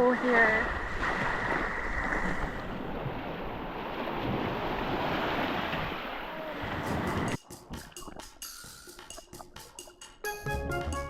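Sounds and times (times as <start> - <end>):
sea waves: 0.0 - 10.0.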